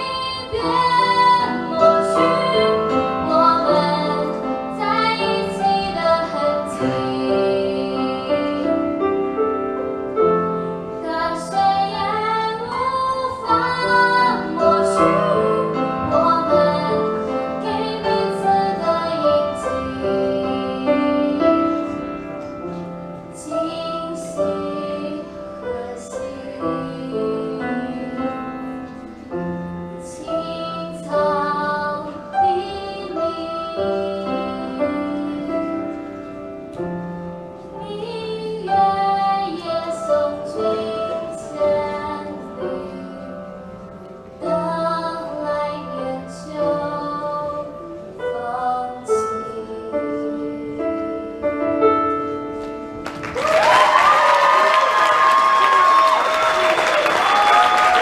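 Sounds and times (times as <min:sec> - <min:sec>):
piano accompaniment: 0:00.0 - 0:58.0.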